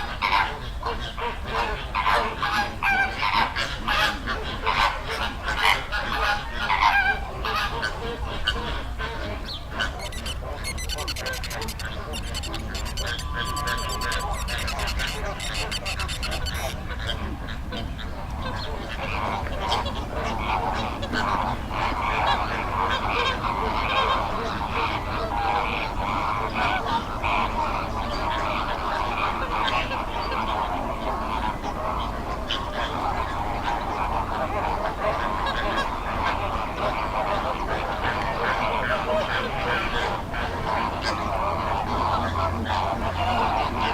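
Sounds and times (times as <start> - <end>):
flamingos honking: 0.0 - 43.9.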